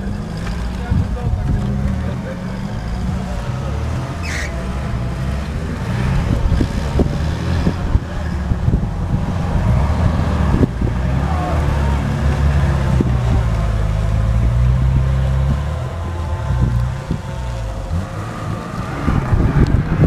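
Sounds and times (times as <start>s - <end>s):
truck engines under load: 0.0s - 20.0s.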